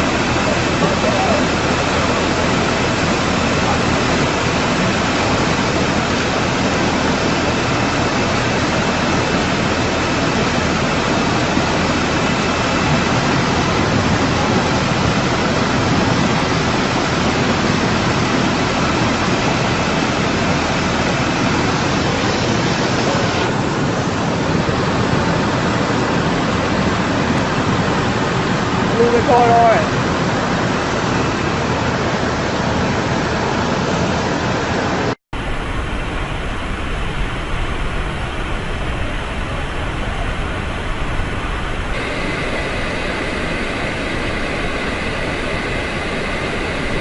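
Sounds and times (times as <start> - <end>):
fast-flowing water rushing: 0.0 - 47.0.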